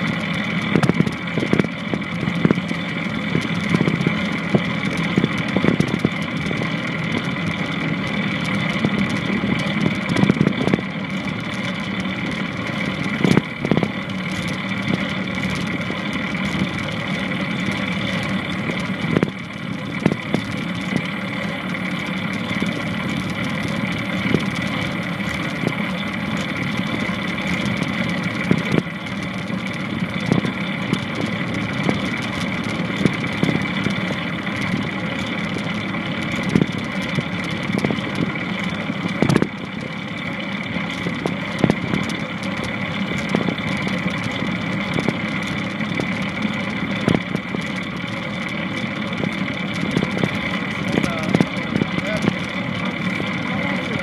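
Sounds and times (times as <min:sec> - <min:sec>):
longboard wheels rolling on pavement: 0:00.0 - 0:54.0.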